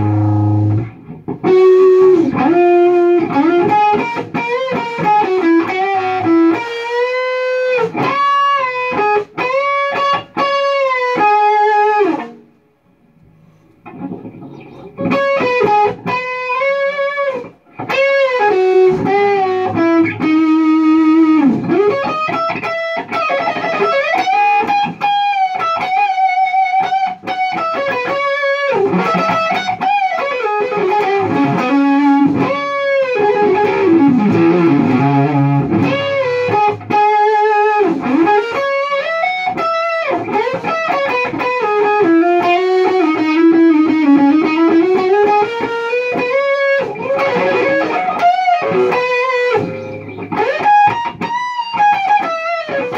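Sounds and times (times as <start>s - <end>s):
distorted electric guitar lead: 0.0s - 12.5s, 13.2s - 52.9s.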